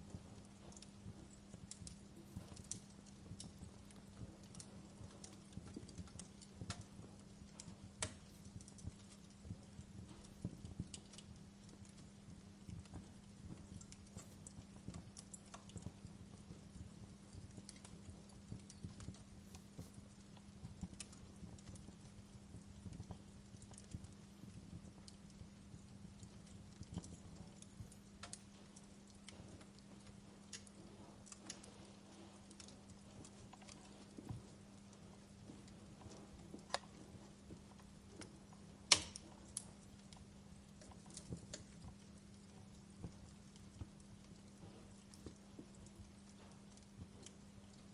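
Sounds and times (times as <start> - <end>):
faint low hum: 0.0 - 47.9
fire crackling with pops: 0.0 - 47.9.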